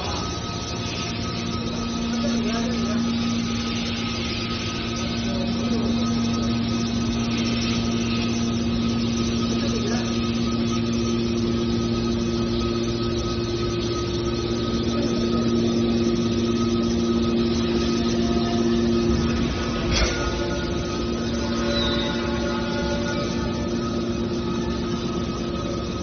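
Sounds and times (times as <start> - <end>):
hydraulic machine humming: 0.0 - 26.0.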